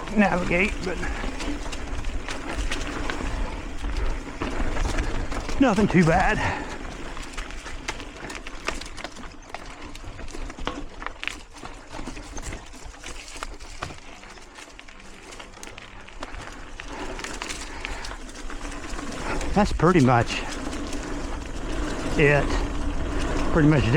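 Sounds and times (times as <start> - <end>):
bike clicks and rattles over rocks: 0.0 - 23.9
tyre and wind noise: 0.0 - 23.9.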